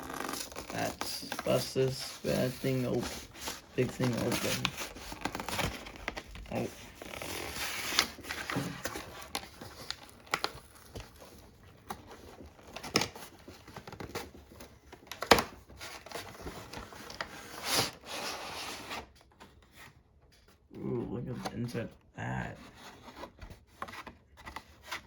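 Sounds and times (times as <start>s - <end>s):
cardboard box rustling and crinkling: 0.0s - 20.6s.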